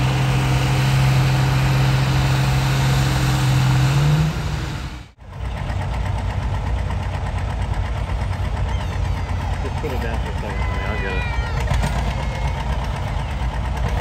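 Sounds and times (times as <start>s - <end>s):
diesel tractor engine idling: 0.0s - 14.0s
diesel tractor engine running: 0.0s - 14.0s.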